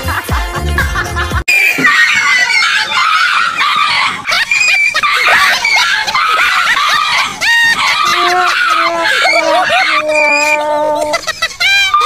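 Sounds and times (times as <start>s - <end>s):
dog yelping: 1.8s - 12.0s.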